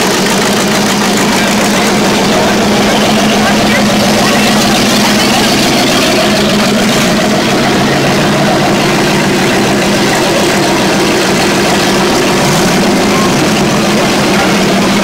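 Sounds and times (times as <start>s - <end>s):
car engines running at low speed: 0.0s - 15.0s.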